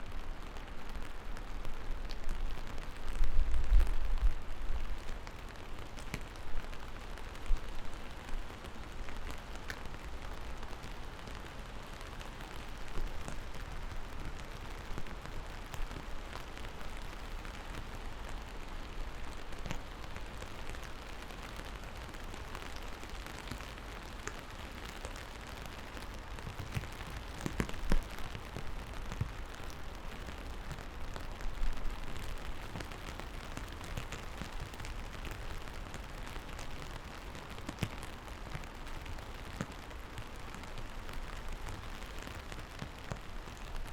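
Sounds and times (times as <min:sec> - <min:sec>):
raindrops striking close by: 0:00.0 - 0:43.9
steady rain falling: 0:00.0 - 0:43.9.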